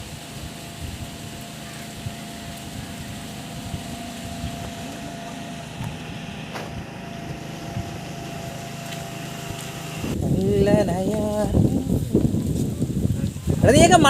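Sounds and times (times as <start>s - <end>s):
rain hiss: 0.0s - 14.0s
wind buffeting microphone: 0.0s - 14.0s.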